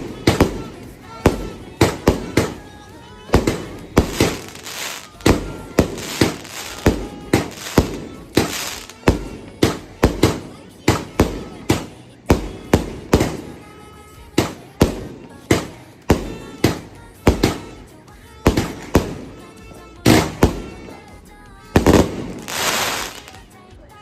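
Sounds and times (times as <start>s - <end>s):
fireworks bangs: 0.0s - 21.1s, 21.7s - 23.4s
fireworks crackling burst: 0.0s - 23.6s.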